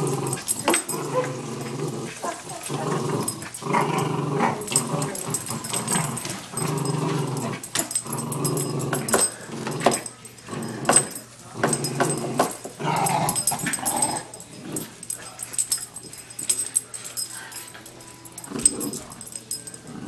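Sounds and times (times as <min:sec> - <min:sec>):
small dogs growling: 0:00.0 - 0:20.0.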